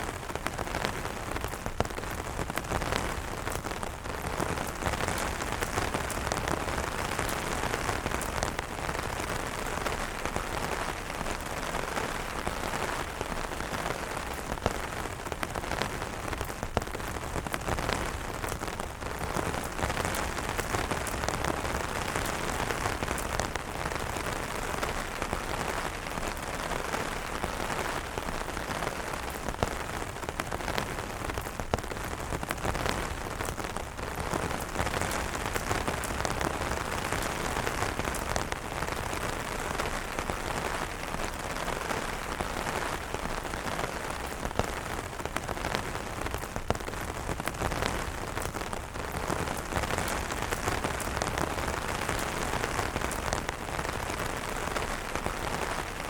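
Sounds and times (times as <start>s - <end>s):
heavy rain on umbrellas: 0.0s - 56.0s
raindrop hits: 0.0s - 56.0s.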